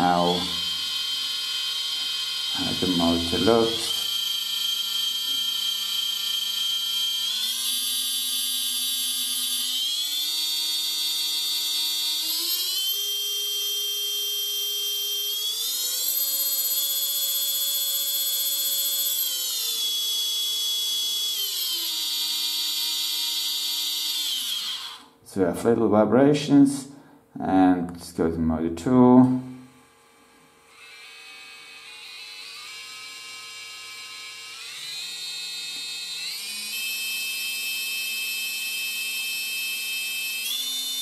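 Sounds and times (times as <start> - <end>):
electric motor high whine: 0.0 - 25.1, 29.6 - 41.0.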